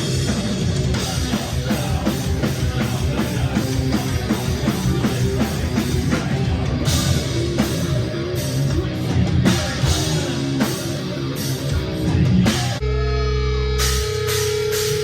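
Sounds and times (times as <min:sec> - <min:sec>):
drum kit with cymbal hits: 0:00.0 - 0:12.9, 0:13.6 - 0:15.0
electric guitars: 0:00.0 - 0:15.0.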